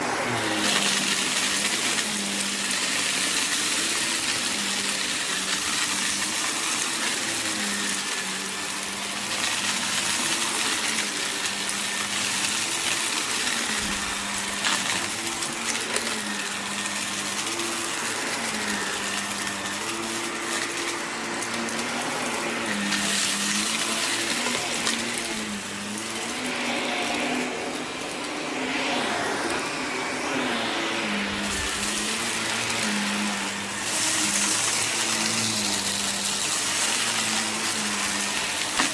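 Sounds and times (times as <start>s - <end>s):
vacuum cleaner running on a rug: 0.0s - 38.9s.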